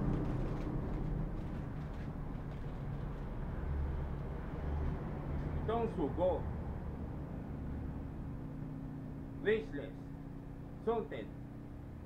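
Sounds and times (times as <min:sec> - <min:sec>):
low background hum and rumble: 0:00.0 - 0:12.0.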